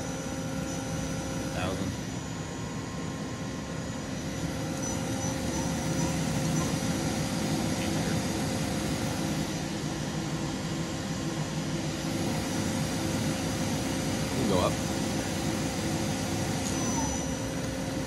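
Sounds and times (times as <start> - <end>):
lathe spindle humming: 0.0 - 18.0.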